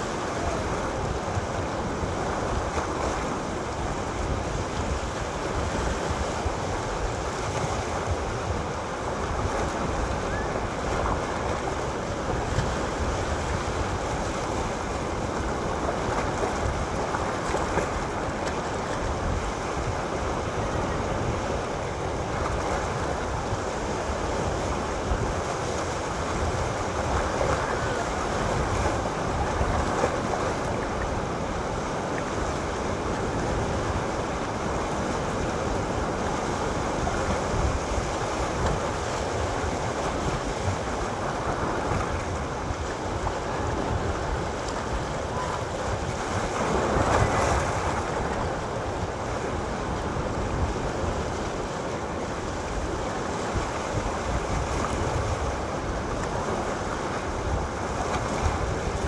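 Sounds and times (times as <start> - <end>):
waves splashing against rocks: 0.0 - 59.0.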